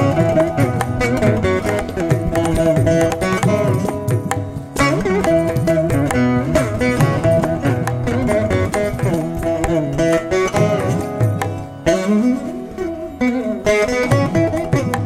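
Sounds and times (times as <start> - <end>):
plucked string instrumental music: 0.0 - 15.0.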